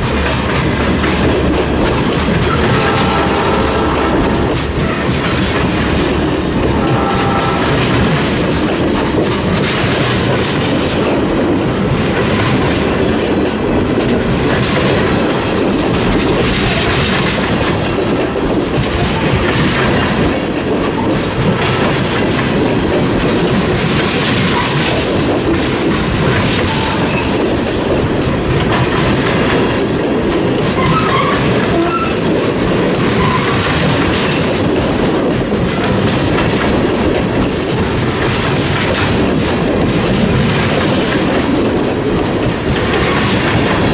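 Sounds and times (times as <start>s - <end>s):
train wheels clacking over rail joints: 0.0s - 43.9s.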